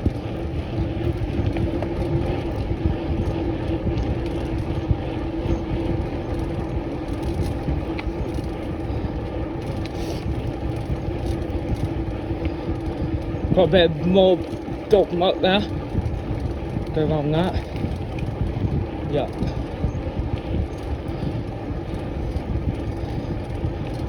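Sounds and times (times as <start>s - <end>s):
steady hum: 0.0s - 24.0s
tyres on wet tarmac: 0.0s - 24.0s
wind rush on microphone: 0.0s - 24.0s.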